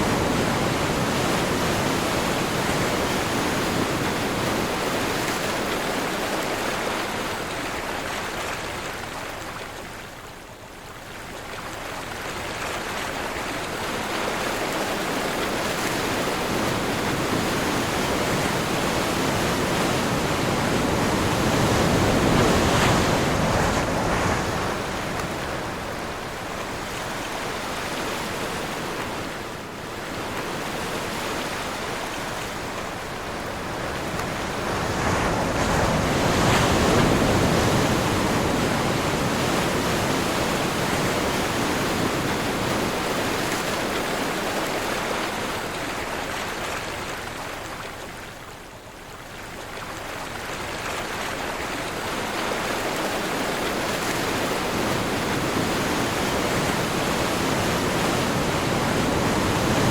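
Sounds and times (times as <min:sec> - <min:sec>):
ocean surf washing ashore: 0:00.0 - 0:10.3, 0:11.6 - 0:59.9
steady wind: 0:00.0 - 0:59.9.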